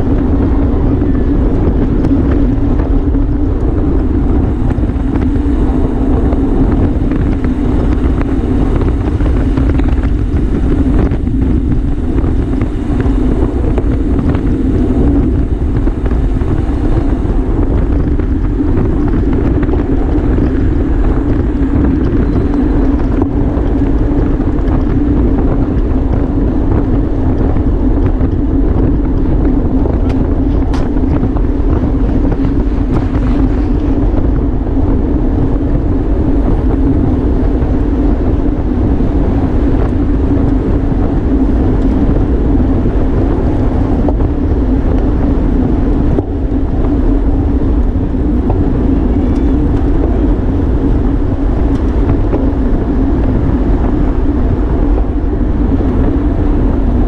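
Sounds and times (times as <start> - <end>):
steady low hum: 0.0 - 57.0
wind rushing on microphone: 0.0 - 57.0.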